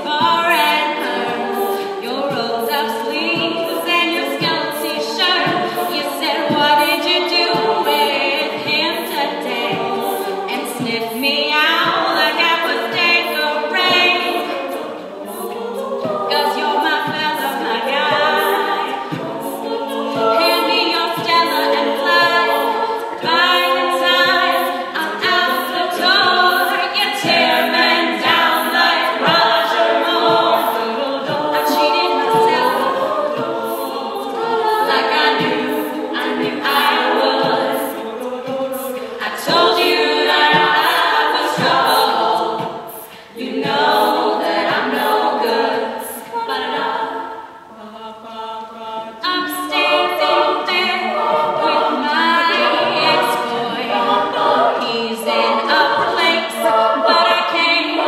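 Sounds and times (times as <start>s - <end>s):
sung backing harmonies: 0.0s - 58.0s
woman singing lead: 0.0s - 58.0s.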